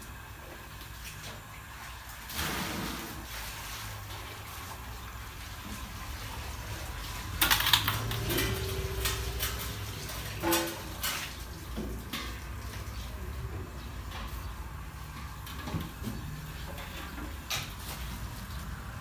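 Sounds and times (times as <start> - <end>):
water splashing in a steel vat: 0.0 - 19.0.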